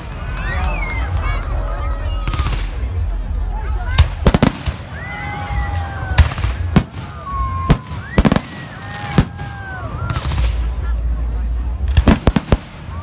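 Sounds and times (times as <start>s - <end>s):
fireworks bangs: 2.1s - 13.0s.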